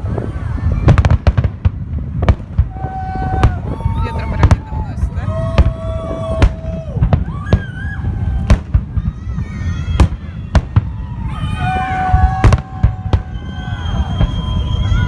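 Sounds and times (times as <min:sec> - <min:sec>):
fireworks bursting in bangs: 0:00.0 - 0:15.0.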